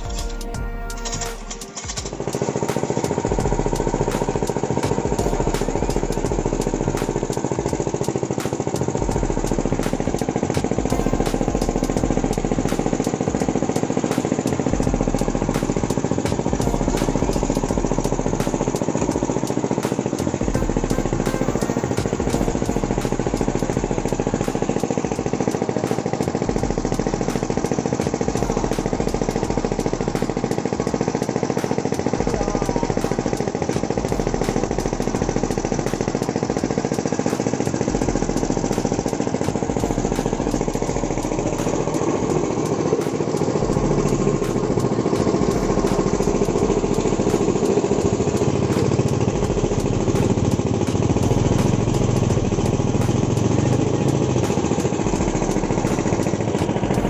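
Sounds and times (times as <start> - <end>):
small engine running: 0.0 - 57.0
sugarcane peeling machine: 0.0 - 57.0.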